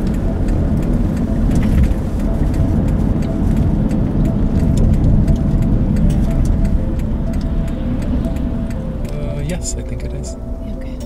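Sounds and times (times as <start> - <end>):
car engine: 0.0 - 11.0
road rumble: 0.0 - 11.0.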